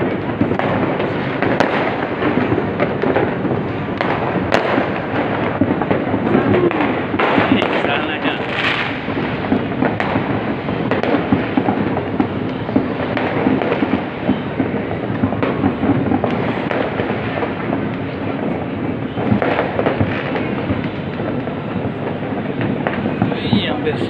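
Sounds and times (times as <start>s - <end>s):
crackle of distant fireworks: 0.0s - 24.0s
sharp firecracker pops: 0.0s - 24.0s.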